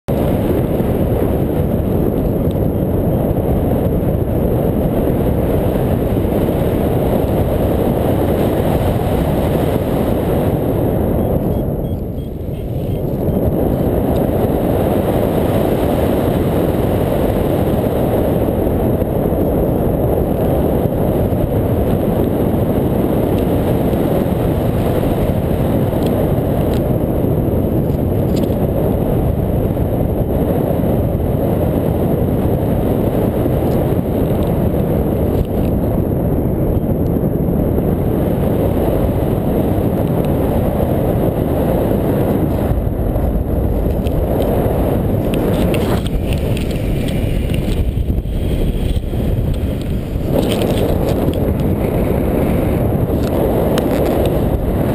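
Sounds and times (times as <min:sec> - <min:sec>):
wind buffeting microphone: 0:00.1 - 0:54.9.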